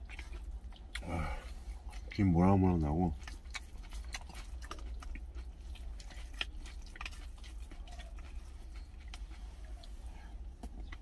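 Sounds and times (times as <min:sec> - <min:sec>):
person chewing food: 0:00.0 - 0:11.0
steady low hum: 0:00.0 - 0:11.0.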